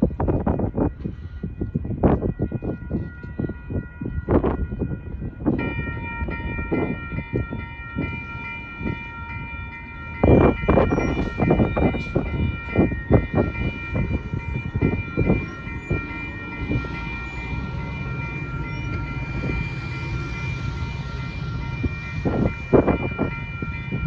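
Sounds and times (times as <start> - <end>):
crossing warning bells ringing: 0.0 - 24.0
low rumble: 4.2 - 24.0.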